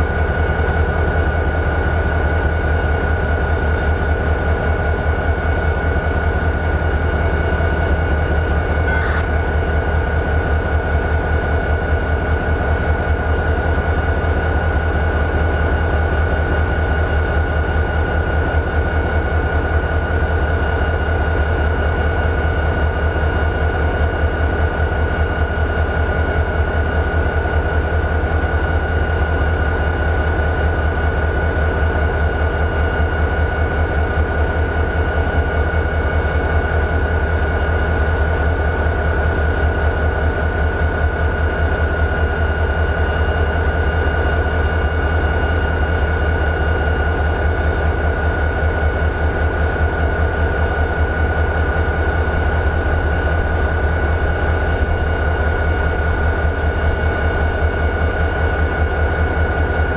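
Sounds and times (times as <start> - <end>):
diesel locomotive idling: 0.0 - 59.9
high-pitched whine: 0.0 - 59.9.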